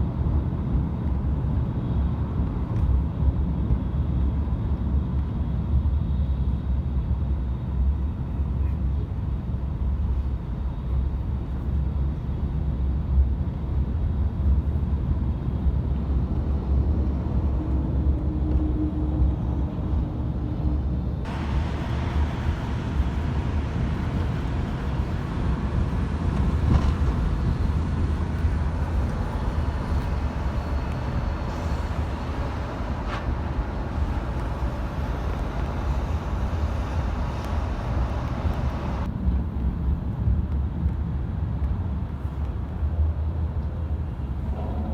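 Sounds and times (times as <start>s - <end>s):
vehicle rumble: 0.0s - 44.9s.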